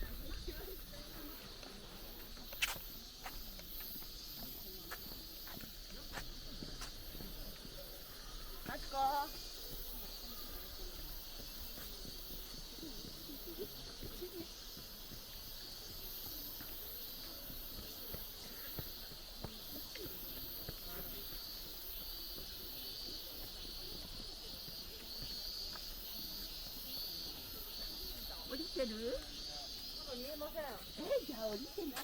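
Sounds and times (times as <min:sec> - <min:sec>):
faint distant voices: 0:00.0 - 0:32.0
high-pitched hiss: 0:00.0 - 0:32.0.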